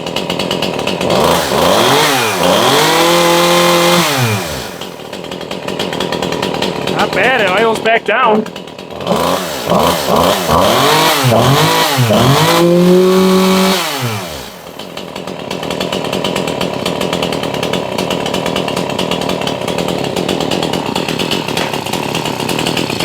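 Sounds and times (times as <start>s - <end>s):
chainsaw engine revving: 0.0s - 23.0s.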